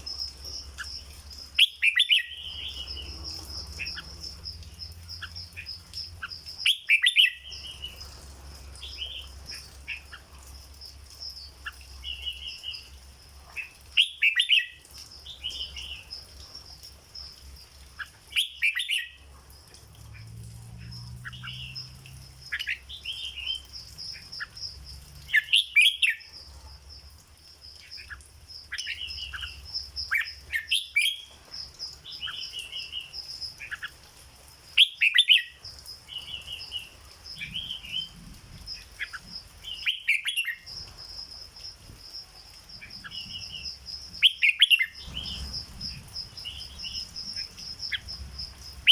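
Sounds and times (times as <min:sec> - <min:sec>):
bird singing warbled phrases: 0:00.0 - 0:10.4, 0:11.0 - 0:16.3, 0:18.0 - 0:19.2, 0:21.2 - 0:26.4, 0:27.7 - 0:34.1, 0:34.7 - 0:38.2, 0:38.8 - 0:40.8, 0:42.8 - 0:48.9
soft bird chirps: 0:00.0 - 0:41.2, 0:41.8 - 0:48.9.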